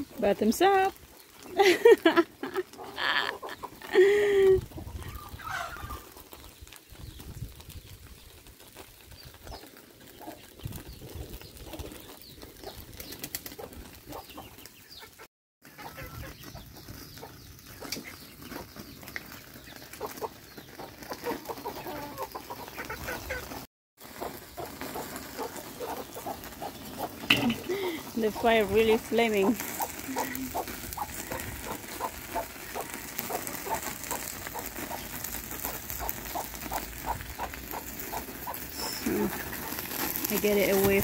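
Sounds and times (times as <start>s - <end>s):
chickens clucking: 2.3s - 6.4s, 8.8s - 41.0s.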